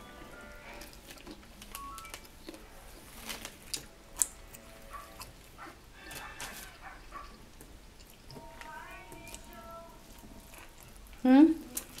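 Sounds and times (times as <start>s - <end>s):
chewing corn: 0.4s - 12.0s.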